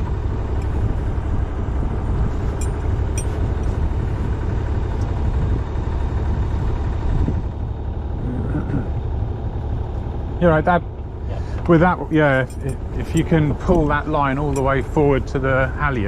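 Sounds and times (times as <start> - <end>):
boat engine low rumble: 0.0 - 16.0.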